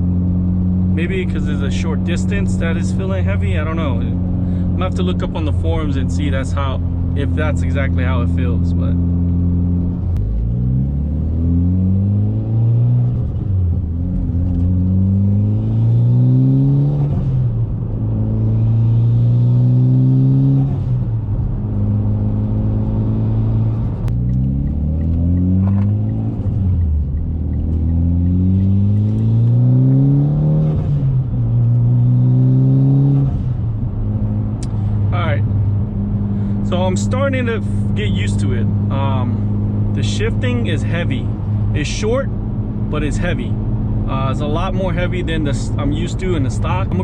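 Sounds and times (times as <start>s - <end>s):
car engine accelerating through gears: 0.0s - 47.0s.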